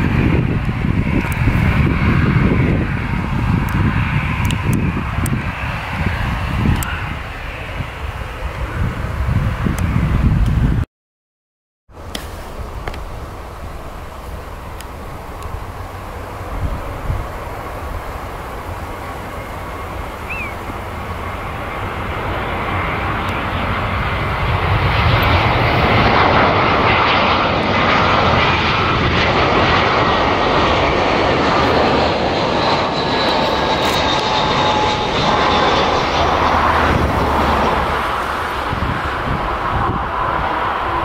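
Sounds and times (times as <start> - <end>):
thin jet engine whine: 0.0 - 10.8, 11.9 - 41.0
jet airliner passing overhead: 0.0 - 10.9, 12.0 - 41.0.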